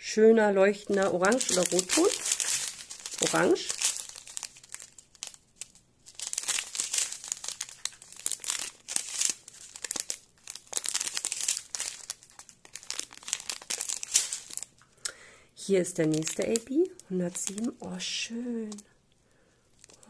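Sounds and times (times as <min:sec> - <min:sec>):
plastic packets crinkling: 0:00.7 - 0:19.0, 0:19.7 - 0:20.0.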